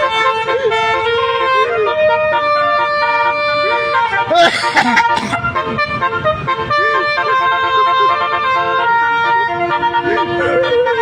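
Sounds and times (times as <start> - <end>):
bus multi-tone horn tune: 0.0 - 11.0.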